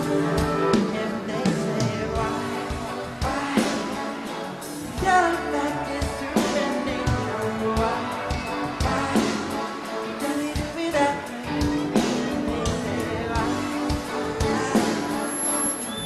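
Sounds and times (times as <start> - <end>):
band playing pop song: 0.0 - 16.0
man singing lead vocal: 0.0 - 16.0.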